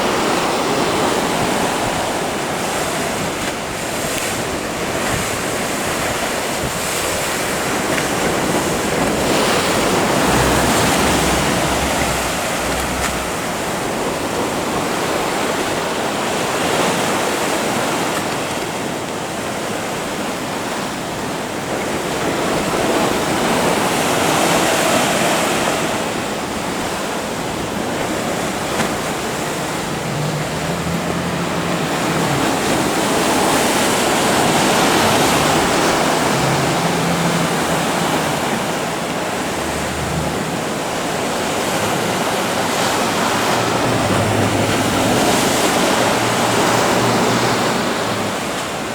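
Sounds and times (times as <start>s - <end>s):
ocean waves crashing: 0.0s - 18.0s, 21.8s - 48.9s.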